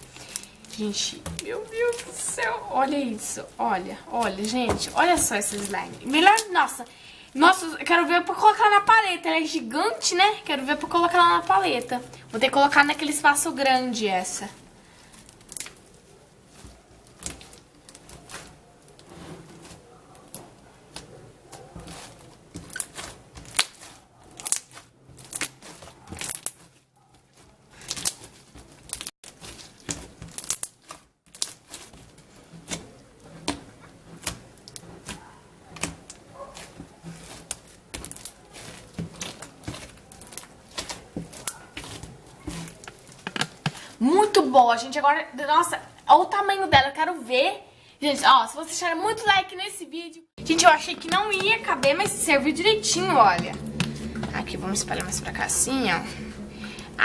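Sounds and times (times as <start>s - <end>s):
slime with beads crackling: 0.0s - 46.6s, 50.4s - 57.0s.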